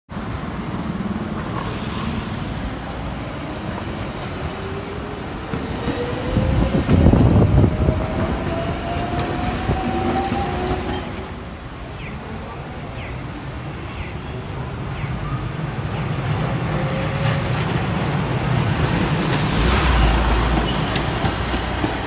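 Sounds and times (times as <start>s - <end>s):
road traffic noise: 0.1s - 22.0s
tram passing with low rumble: 0.1s - 22.0s.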